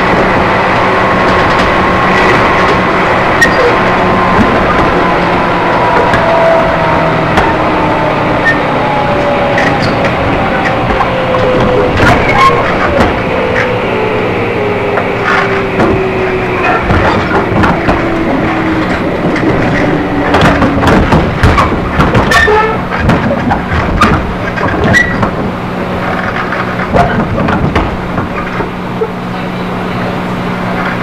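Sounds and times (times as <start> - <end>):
train motor whine: 0.0 - 31.0
wheels clattering on rails: 0.0 - 31.0.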